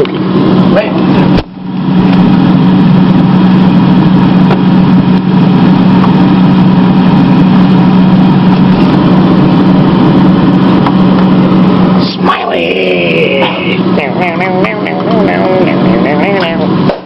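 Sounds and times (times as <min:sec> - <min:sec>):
freezer fan and compressor hum: 0:00.0 - 0:17.0.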